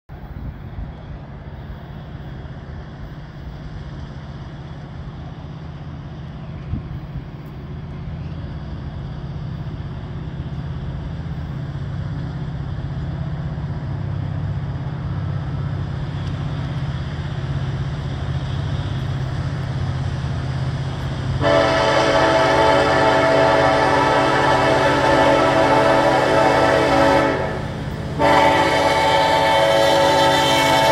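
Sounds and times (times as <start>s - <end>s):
locomotive engine drone: 0.1s - 30.9s.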